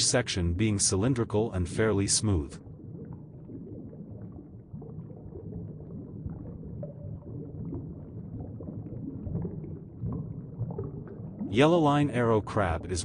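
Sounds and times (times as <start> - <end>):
low steady rumbling: 0.0 - 13.0.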